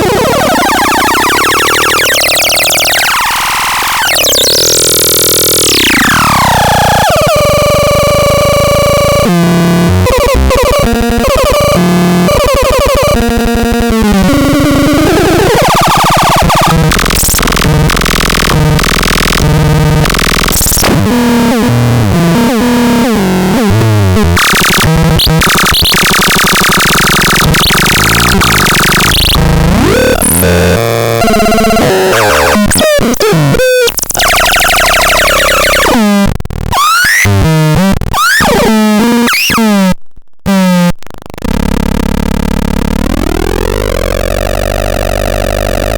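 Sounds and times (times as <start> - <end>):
synthesizer electronic tones: 0.0 - 39.8.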